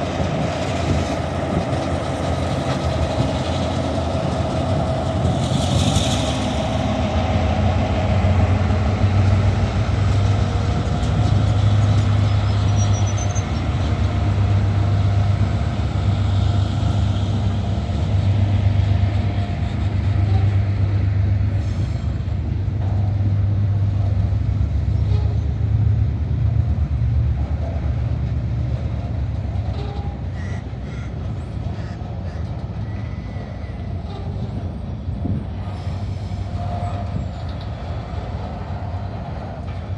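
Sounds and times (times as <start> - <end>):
diesel locomotive engine hum: 0.0 - 39.9
train wheels rumbling on rail: 0.0 - 39.9.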